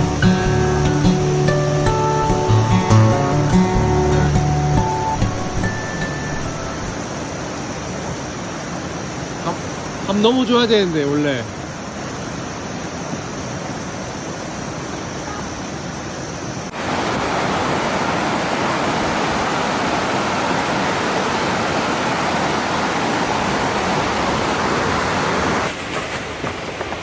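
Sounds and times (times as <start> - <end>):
stream rushing: 0.0 - 15.1, 16.7 - 27.0.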